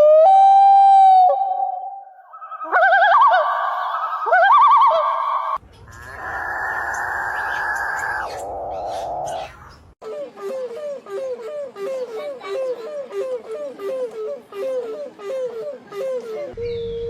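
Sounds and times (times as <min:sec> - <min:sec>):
bird calls with wavering warble: 0:02.0 - 0:16.9.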